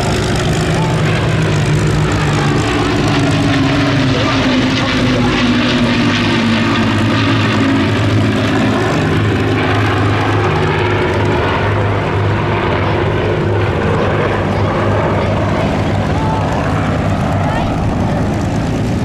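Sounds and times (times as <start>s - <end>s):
multi-engine aircraft drone: 0.0s - 19.0s.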